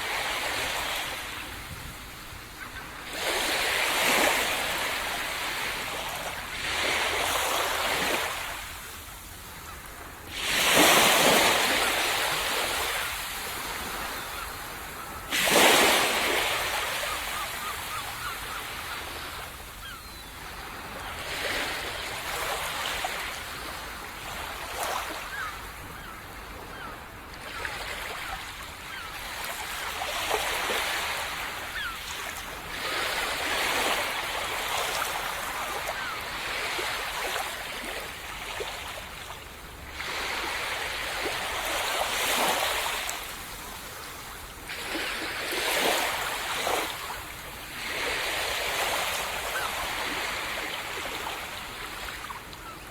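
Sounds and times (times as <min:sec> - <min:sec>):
small waves breaking: 0:00.0 - 0:52.9.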